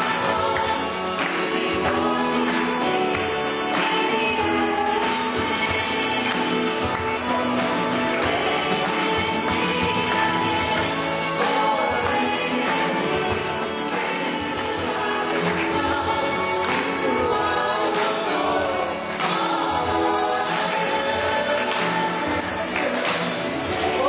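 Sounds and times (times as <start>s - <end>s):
voices singing praise song: 0.0s - 24.0s.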